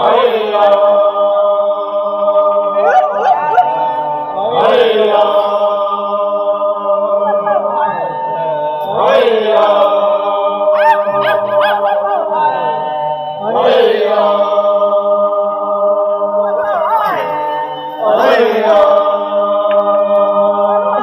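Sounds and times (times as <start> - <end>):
group of voices singing in harmony: 0.0 - 21.0.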